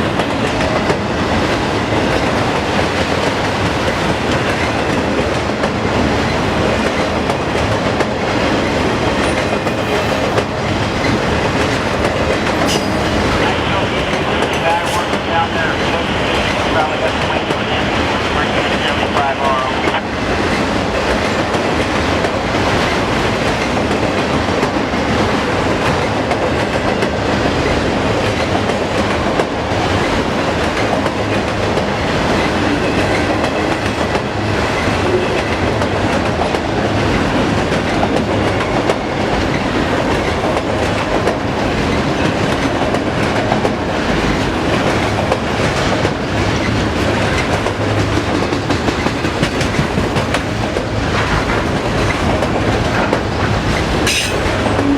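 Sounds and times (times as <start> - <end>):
freight train wheels clickety-clack: 0.0 - 54.9.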